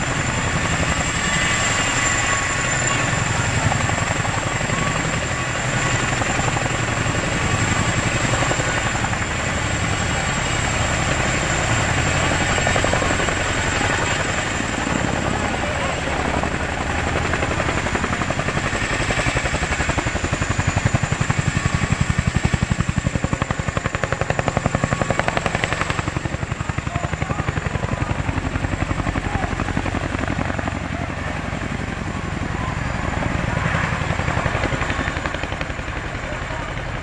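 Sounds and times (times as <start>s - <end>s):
helicopter rotor beat: 0.0s - 37.0s
turbine engine whine: 0.0s - 37.0s.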